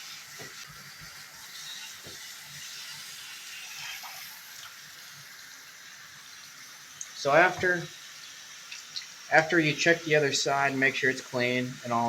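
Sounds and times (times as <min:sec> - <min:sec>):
shower spraying water on filter: 0:00.0 - 0:12.0.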